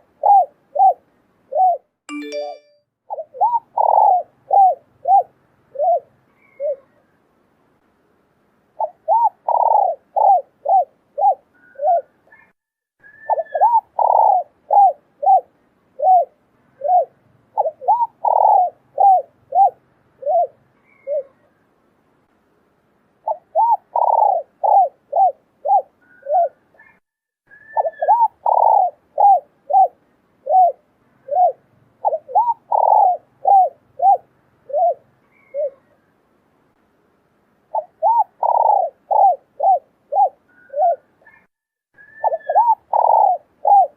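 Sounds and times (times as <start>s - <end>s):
doves cooing: 0.0s - 1.8s, 3.1s - 7.0s, 8.8s - 12.5s, 13.2s - 21.4s, 23.3s - 36.0s, 37.7s - 43.9s.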